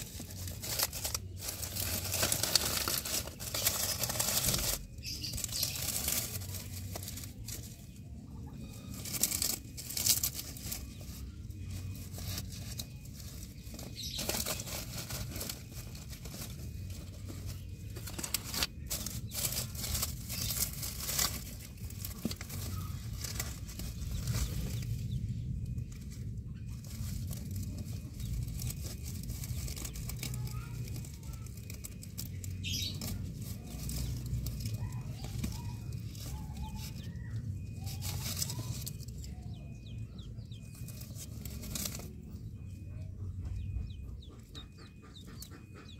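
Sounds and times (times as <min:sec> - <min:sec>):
dry leaves rustling and crackling: 0:00.0 - 0:42.6.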